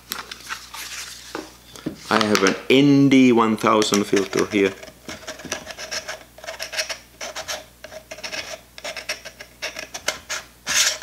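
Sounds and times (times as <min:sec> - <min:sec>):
threads rubbing and scraping: 0:00.4 - 0:02.5, 0:03.7 - 0:11.0.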